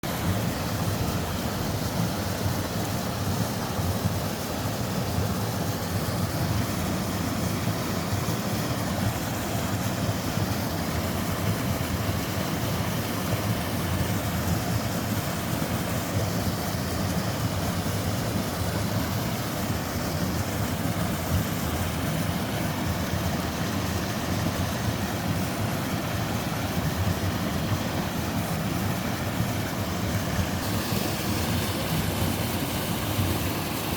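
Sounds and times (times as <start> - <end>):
waterfall rushing into pool: 0.0 - 33.9.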